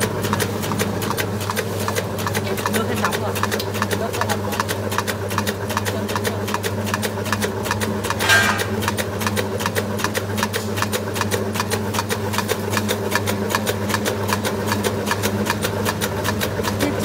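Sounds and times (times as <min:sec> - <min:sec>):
rapid machine ticking: 0:00.0 - 0:17.0.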